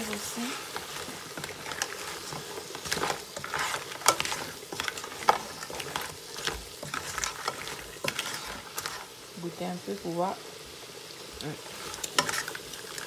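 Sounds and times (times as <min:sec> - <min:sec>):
spatula scraping shells in pan: 0:00.0 - 0:09.3, 0:11.6 - 0:13.0
light sizzle of frying: 0:00.0 - 0:13.0.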